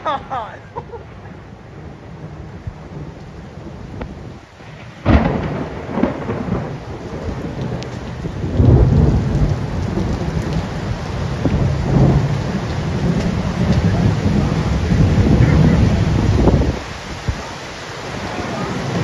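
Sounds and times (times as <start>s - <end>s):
heavy rain downpour: 0.0s - 19.0s
thunder rumbling: 0.0s - 19.0s.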